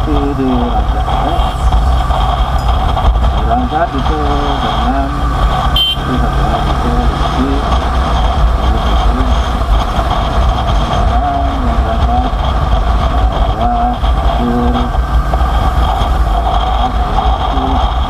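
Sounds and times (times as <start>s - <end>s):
constant road rush: 0.0s - 18.0s
low engine hum: 0.0s - 18.0s.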